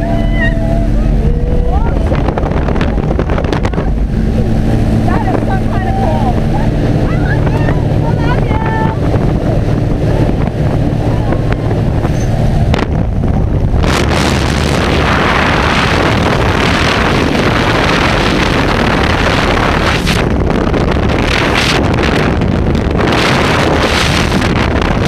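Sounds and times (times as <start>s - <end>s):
plane engine droning: 0.0s - 25.0s
wind buffeting microphone: 0.0s - 25.0s.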